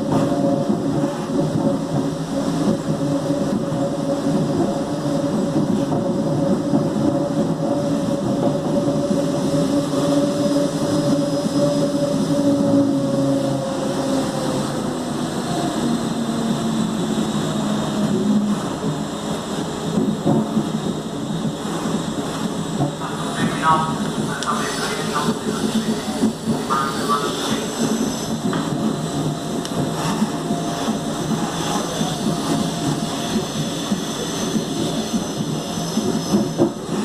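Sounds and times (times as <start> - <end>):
electric train humming: 0.0 - 37.0.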